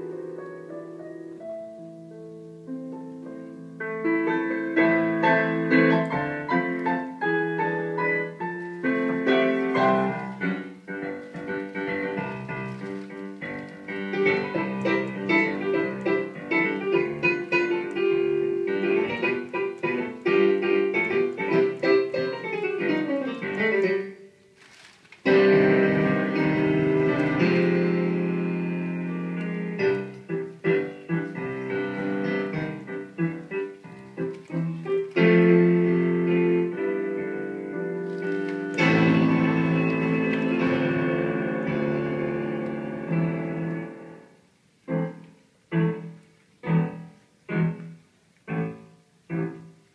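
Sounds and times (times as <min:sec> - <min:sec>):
piano music: 0:00.0 - 0:49.9.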